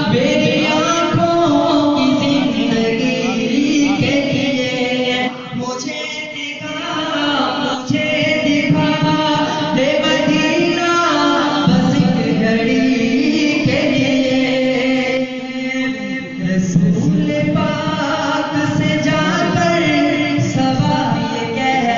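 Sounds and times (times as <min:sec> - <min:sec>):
droning backing voices: 0:00.0 - 0:21.9
man singing a devotional chant: 0:00.0 - 0:21.9.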